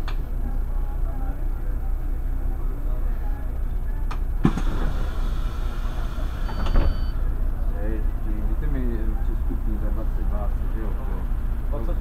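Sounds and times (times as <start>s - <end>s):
bus engine low rumble: 0.0s - 12.0s.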